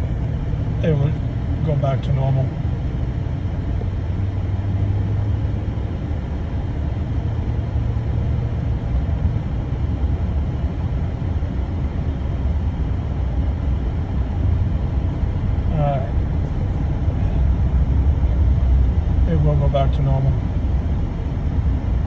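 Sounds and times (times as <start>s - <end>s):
pickup truck diesel engine rumble: 0.0s - 22.0s
road noise: 0.0s - 22.0s.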